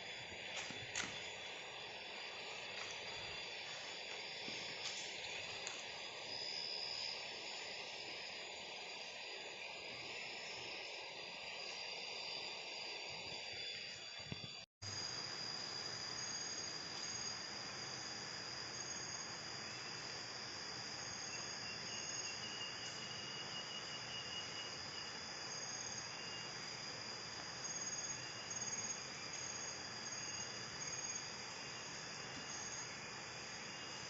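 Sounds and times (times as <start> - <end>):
insects calling: 0.0 - 34.0
steady hiss: 0.0 - 34.0.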